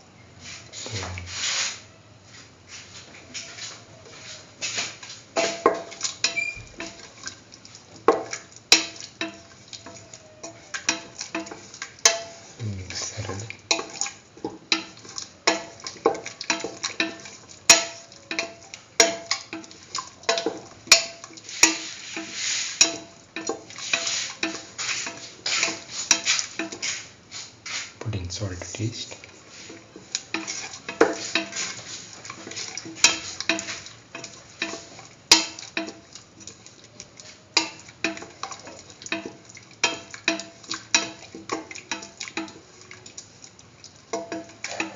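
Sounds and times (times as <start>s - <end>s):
spoon scraping a cooking pot: 3.3s - 7.4s, 8.0s - 28.0s, 28.9s - 44.9s.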